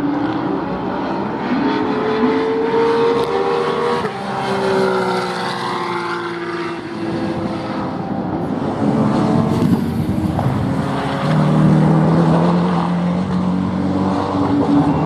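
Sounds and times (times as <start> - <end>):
racing car engine: 0.0 - 15.0.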